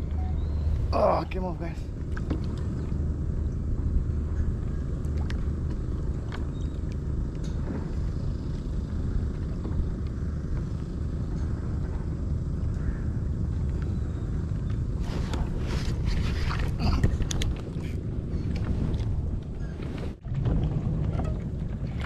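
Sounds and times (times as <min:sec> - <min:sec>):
low rumble on open water: 0:00.0 - 0:22.0.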